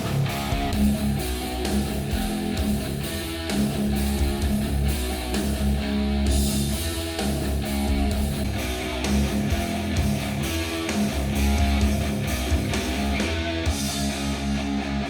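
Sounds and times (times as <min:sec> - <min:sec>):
guitar-led music through speakers: 0:00.0 - 0:15.0.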